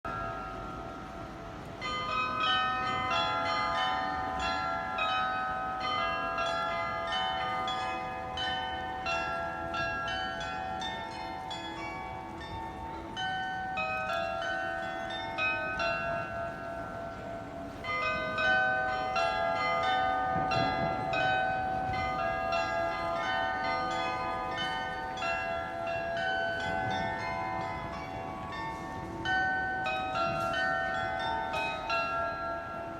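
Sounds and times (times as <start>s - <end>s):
tower bells ringing: 0.1s - 32.9s.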